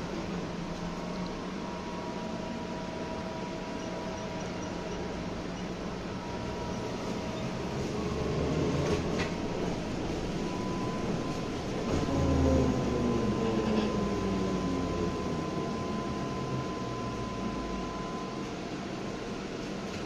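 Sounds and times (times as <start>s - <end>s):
trolleybus electrical hum: 0.0s - 20.0s
trolleybus running: 0.0s - 20.0s.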